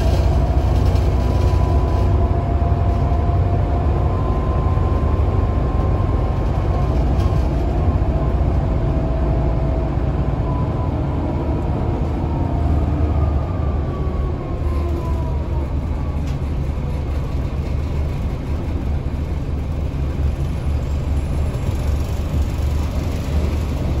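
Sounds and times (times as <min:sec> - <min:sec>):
bus engine rumble: 0:00.0 - 0:24.0
road noise: 0:00.0 - 0:24.0.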